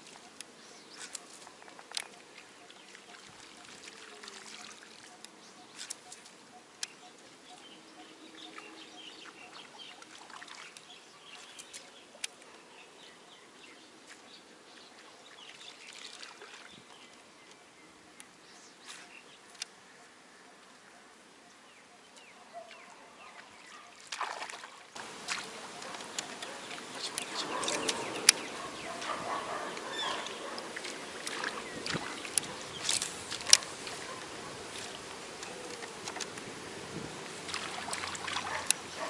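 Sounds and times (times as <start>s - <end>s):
water trickling and lapping: 0.0s - 39.0s.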